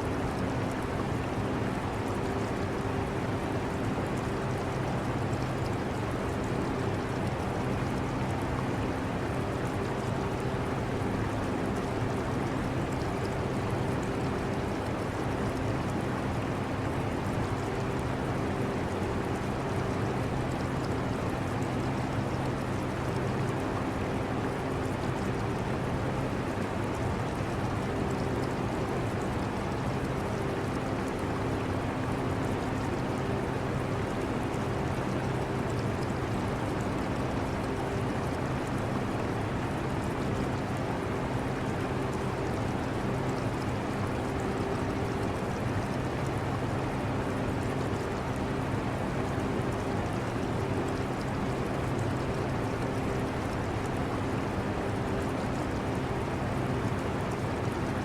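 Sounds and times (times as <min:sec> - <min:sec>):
aquarium water trickling: 0:00.0 - 0:58.0.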